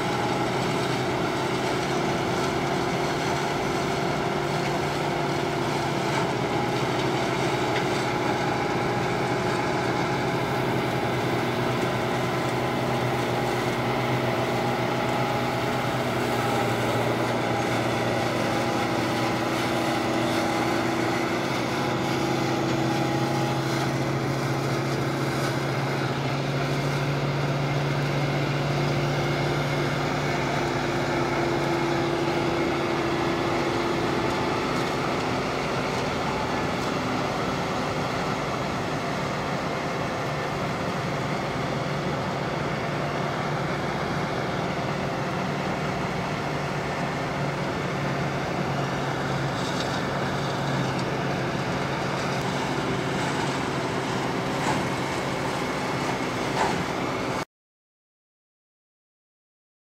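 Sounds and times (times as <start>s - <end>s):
combine harvester running: 0.0s - 57.4s.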